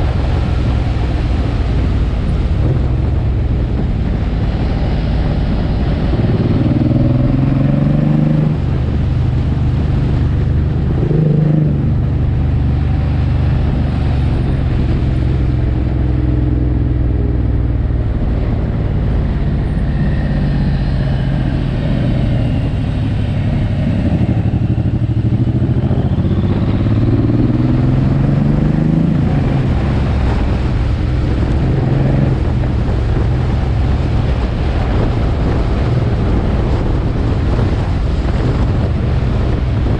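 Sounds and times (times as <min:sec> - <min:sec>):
wind rushing: 0:00.0 - 0:39.9.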